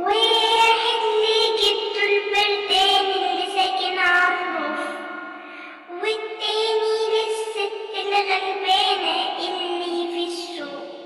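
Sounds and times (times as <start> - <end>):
child singing: 0.0 - 5.0, 5.8 - 11.0.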